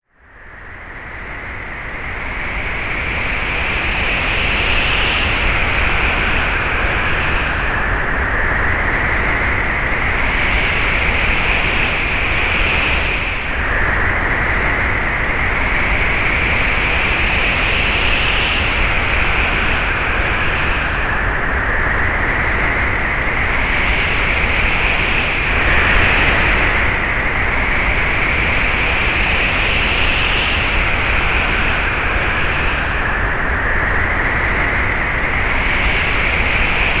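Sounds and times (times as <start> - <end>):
whistling wind gusts: 0.2 - 37.0.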